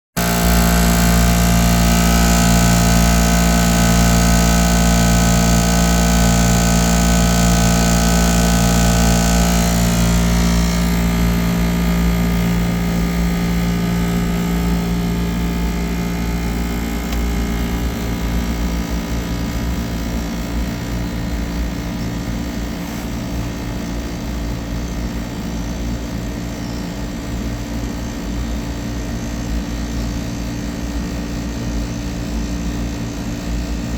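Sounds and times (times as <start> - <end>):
air conditioning compressor humming: 0.1 - 33.9.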